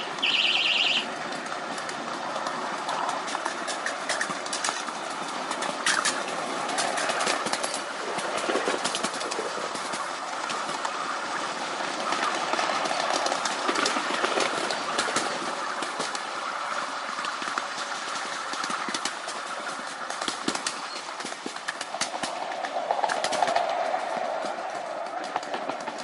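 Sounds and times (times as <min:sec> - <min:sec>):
train wheels rumbling on rail: 0:00.0 - 0:26.0
wheels clicking over rail joints: 0:00.0 - 0:26.0.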